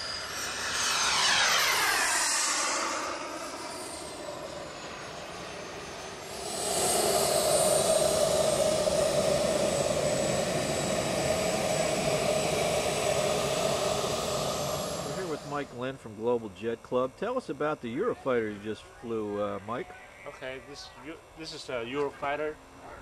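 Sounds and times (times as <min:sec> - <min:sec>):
model jet turbine whining: 0:00.0 - 0:21.8.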